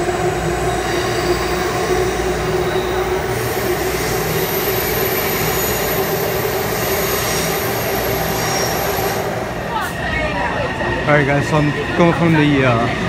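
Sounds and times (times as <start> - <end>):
train wheels rumbling on rails: 0.0 - 13.0
train whine: 0.0 - 13.0.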